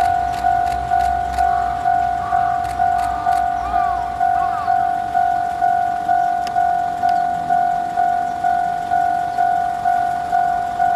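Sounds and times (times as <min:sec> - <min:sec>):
level crossing bell ringing: 0:00.0 - 0:10.9
train rumbling past: 0:00.0 - 0:10.9.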